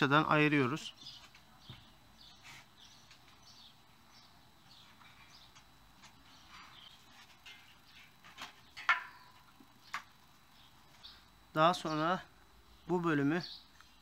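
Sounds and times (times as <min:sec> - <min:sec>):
faint bird chirps: 0:00.2 - 0:14.0.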